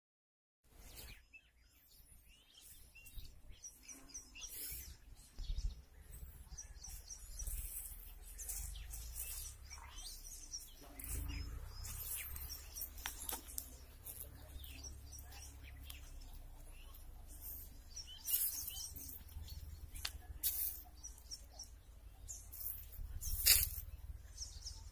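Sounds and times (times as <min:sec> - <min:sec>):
small birds chirping: 0:00.7 - 0:24.9.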